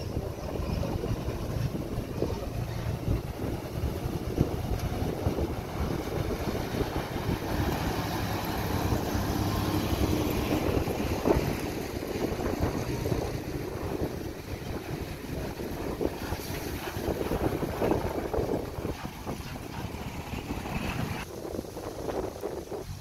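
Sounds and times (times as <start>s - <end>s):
diesel engine running: 0.0s - 21.2s
wind noise on microphone: 0.0s - 23.0s.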